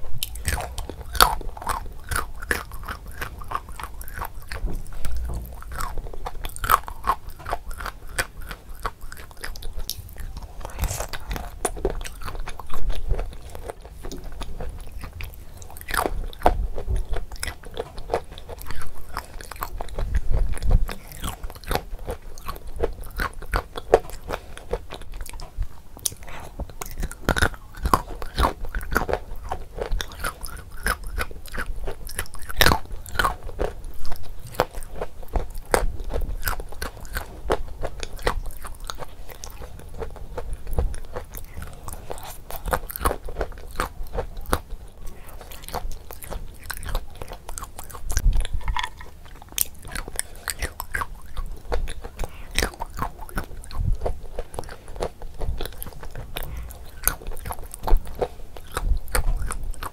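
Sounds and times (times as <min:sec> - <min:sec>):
crunchy chewing of clay: 0:00.0 - 0:59.9.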